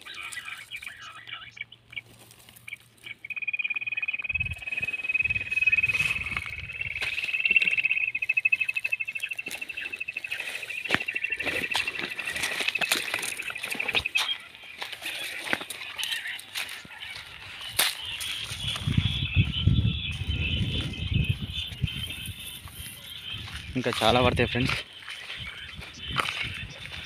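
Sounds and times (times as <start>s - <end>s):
dry stalks rustling: 0.0s - 27.0s
quail trilling call: 0.0s - 27.0s.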